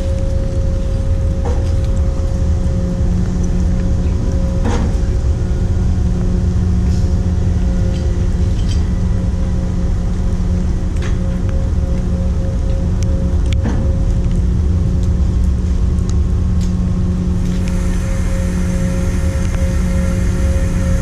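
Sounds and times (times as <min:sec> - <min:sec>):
constant machinery whine: 0:00.0 - 0:21.0
ship machinery low rumble: 0:00.0 - 0:21.0.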